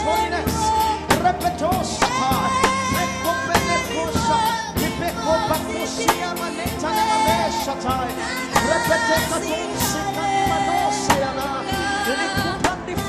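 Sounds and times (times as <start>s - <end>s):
gospel singing over a band: 0.0s - 13.0s
steady drum beat: 0.0s - 13.0s.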